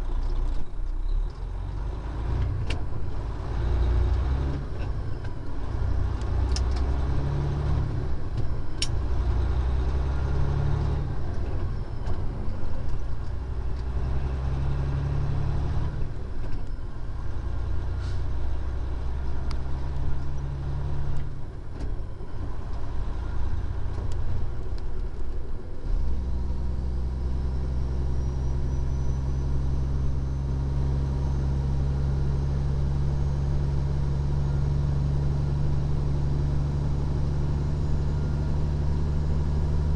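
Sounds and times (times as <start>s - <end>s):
diesel truck engine running: 0.0s - 39.9s
road noise: 0.0s - 39.9s.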